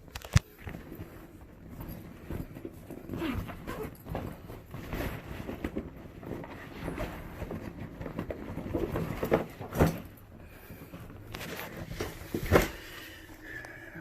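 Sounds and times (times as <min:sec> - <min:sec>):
rustling of tool bag: 0:00.0 - 0:14.0.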